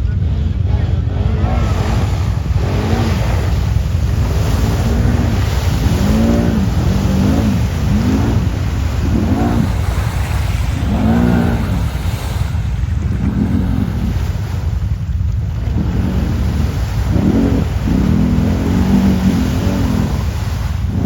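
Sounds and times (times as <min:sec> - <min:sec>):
quad engine revving: 0:00.0 - 0:21.0
wind rumble on microphone: 0:00.0 - 0:21.0.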